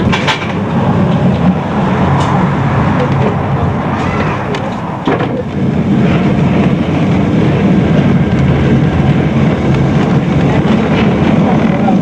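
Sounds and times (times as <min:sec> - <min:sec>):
tram motor and wheels on rails: 0:00.0 - 0:12.0.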